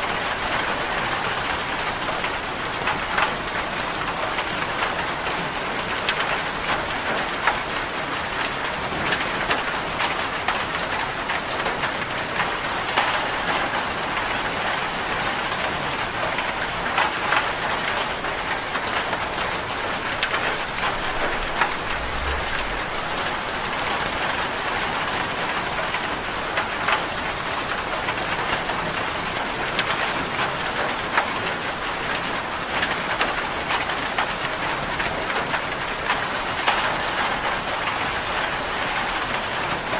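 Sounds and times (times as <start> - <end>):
rain falling: 0.0 - 39.9
sharp clicks of raindrops: 0.1 - 39.9.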